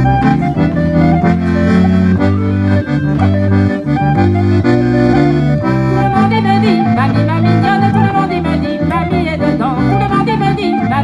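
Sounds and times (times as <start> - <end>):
accordion dance tune: 0.0 - 11.0.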